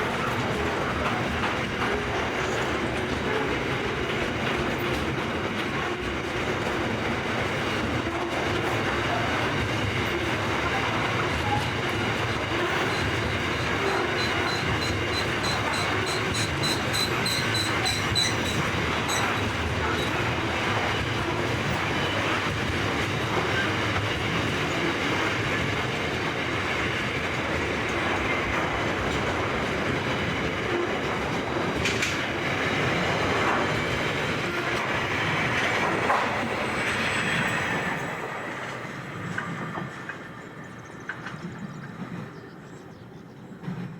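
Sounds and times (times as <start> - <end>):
train wheels rushing on rail: 0.0 - 43.9.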